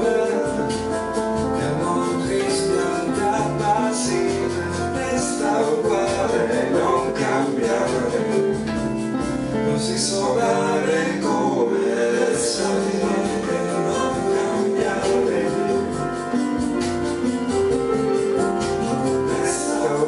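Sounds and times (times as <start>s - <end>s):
man singing: 0.0s - 8.9s, 9.5s - 16.7s, 18.4s - 20.0s
piano pop ballad: 0.0s - 20.0s.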